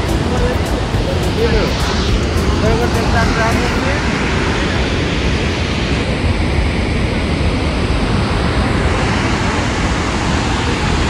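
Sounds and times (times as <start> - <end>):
water rushing through spillway: 0.0 - 11.0
wind on microphone: 0.0 - 11.0.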